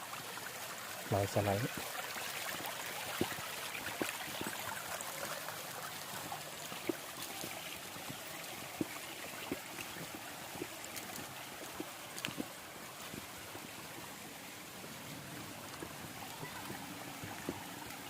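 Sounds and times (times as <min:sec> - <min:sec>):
stream water trickling over rock: 0:00.0 - 0:18.0.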